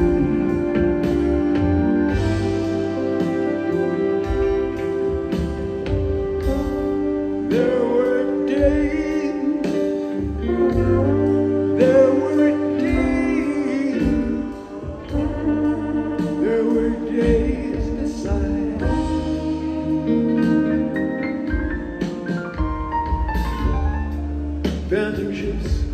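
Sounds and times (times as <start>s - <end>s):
live rock band with horns and strings: 0.0s - 25.9s.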